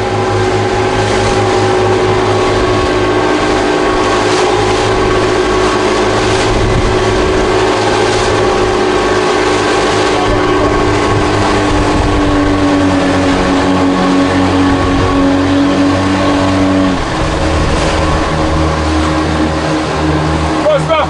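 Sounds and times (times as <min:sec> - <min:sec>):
motorboat engine running: 0:00.0 - 0:21.0
water and wind noise: 0:00.0 - 0:21.0.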